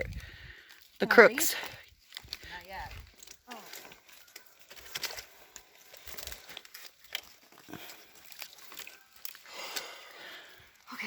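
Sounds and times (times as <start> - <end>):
branches rustling: 0.0 - 11.0.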